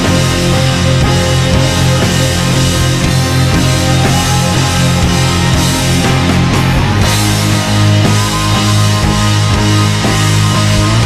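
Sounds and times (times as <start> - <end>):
distorted electric guitar: 0.0 - 11.0
steady drum beat: 0.0 - 11.0.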